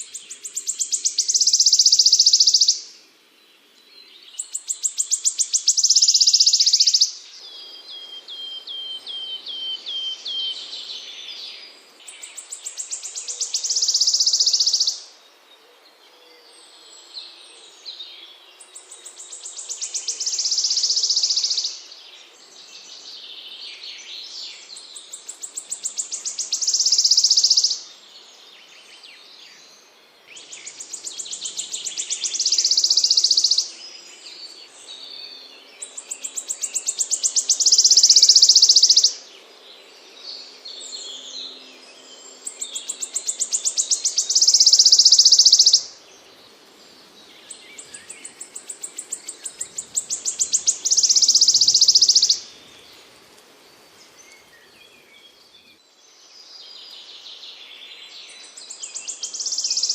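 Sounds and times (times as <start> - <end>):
songbird buzzy trill song: 0.0 - 59.9.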